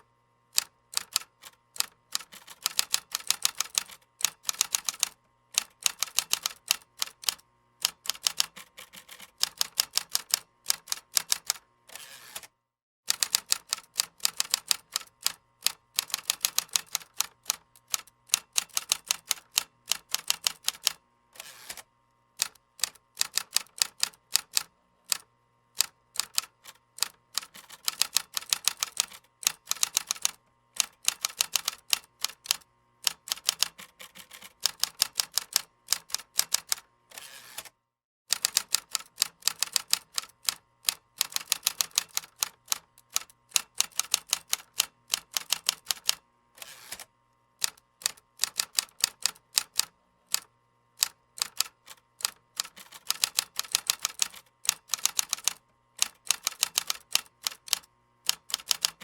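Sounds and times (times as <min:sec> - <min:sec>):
keyboard typing: 0:00.6 - 0:11.6, 0:13.1 - 0:21.0, 0:22.4 - 0:25.2, 0:25.8 - 0:36.8, 0:38.3 - 0:46.2, 0:46.9 - 0:59.0.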